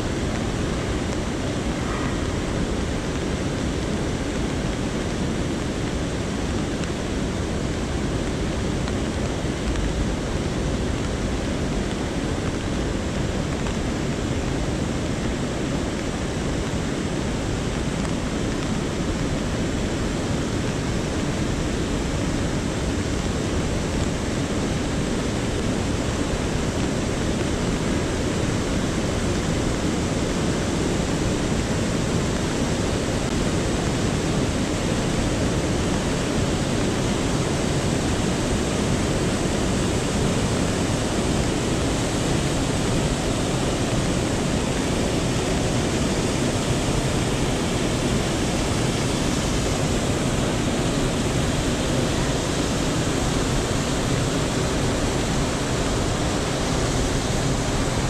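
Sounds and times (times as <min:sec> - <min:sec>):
water rushing over cascade: 0:00.0 - 0:58.0.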